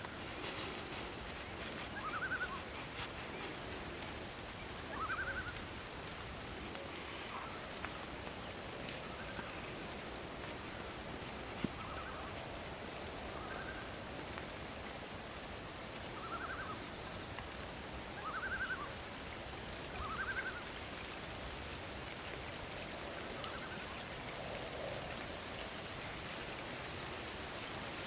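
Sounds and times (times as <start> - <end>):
rain: 0.0 - 28.0
wind: 0.0 - 28.0.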